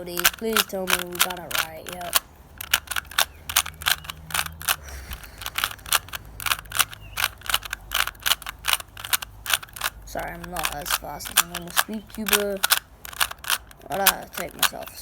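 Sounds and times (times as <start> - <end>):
puzzle cube clacking clicks: 0.0 - 15.0.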